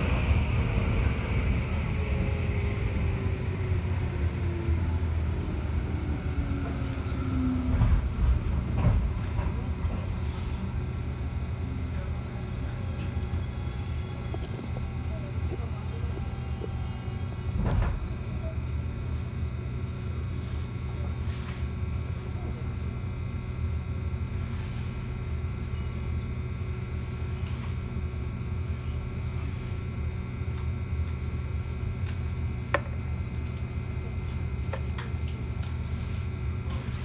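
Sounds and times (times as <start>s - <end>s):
train cabin rumble and hum: 0.0s - 37.0s.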